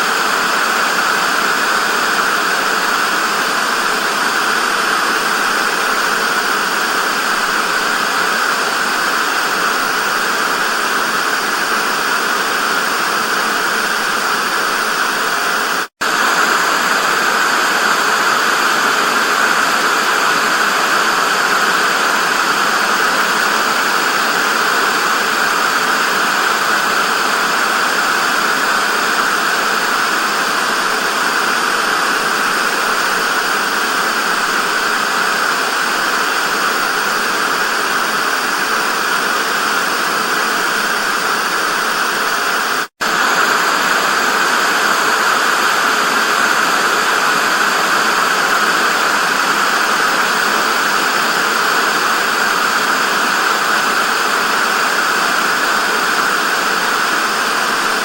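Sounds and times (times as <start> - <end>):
television static hiss: 0.0 - 58.0.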